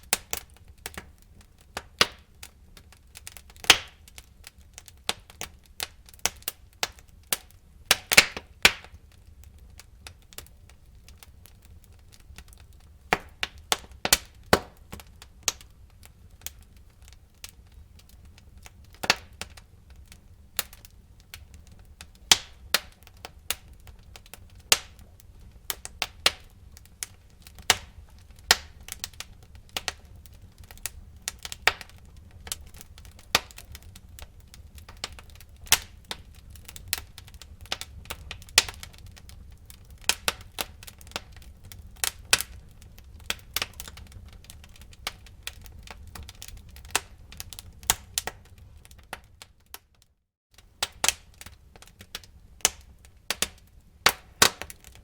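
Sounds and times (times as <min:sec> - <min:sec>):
sharp pops from burning logs: 0:00.0 - 0:49.9, 0:50.6 - 0:55.0
faint low rumble of flame: 0:00.0 - 0:55.0
wood fire crackling: 0:00.0 - 0:55.0.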